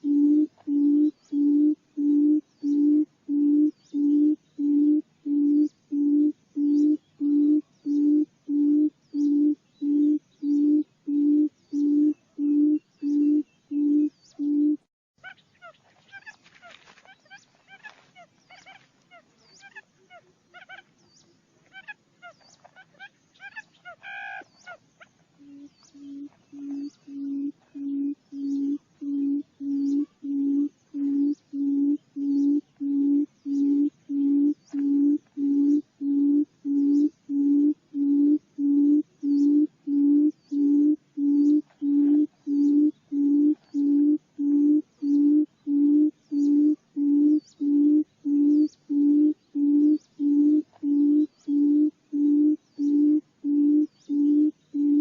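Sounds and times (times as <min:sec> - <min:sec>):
bird low hooting notes: 0:00.0 - 0:16.3, 0:17.1 - 0:55.0
faint high chirping: 0:00.0 - 0:55.0.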